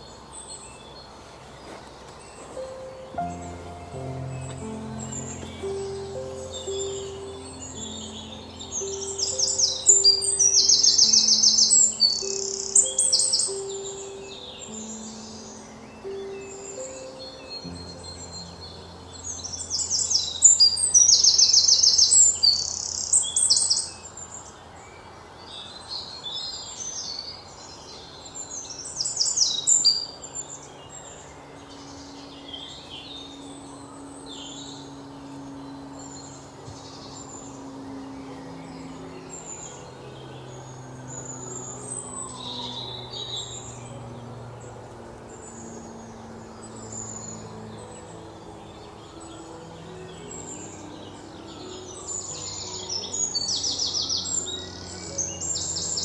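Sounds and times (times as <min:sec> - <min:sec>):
songbirds chirping and trilling: 0:00.0 - 0:56.0
soft background music: 0:00.1 - 0:56.0.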